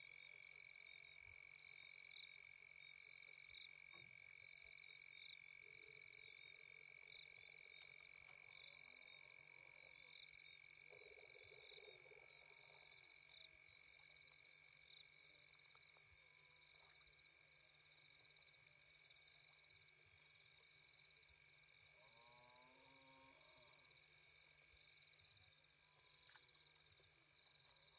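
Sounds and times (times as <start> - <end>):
low insect drone: 0.2 - 27.9.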